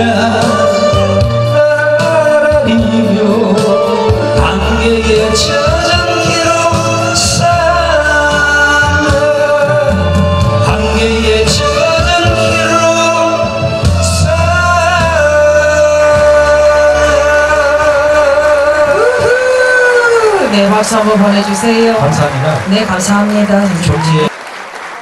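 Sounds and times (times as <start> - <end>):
man singing into microphone: 0.0 - 21.9
musical accompaniment: 0.0 - 24.3.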